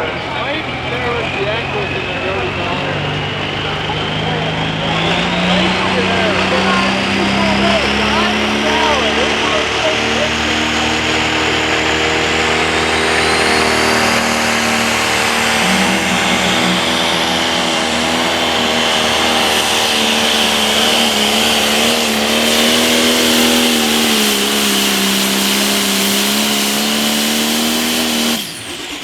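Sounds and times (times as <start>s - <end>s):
diesel tractor engine at full power: 0.0s - 29.0s.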